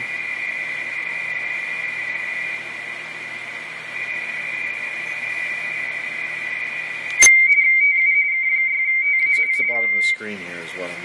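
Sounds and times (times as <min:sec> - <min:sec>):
warbling radio data tones: 0:00.1 - 0:11.0.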